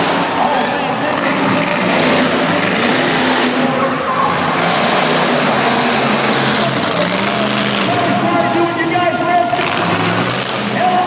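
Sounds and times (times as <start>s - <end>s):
truck engine revving loudly: 0.0s - 11.0s.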